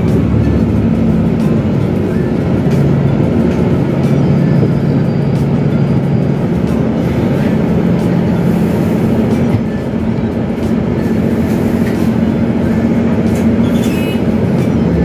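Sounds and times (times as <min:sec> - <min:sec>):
high-pitched squeal: 0:00.0 - 0:10.0, 0:11.0 - 0:15.0
bus engine humming: 0:00.0 - 0:15.0.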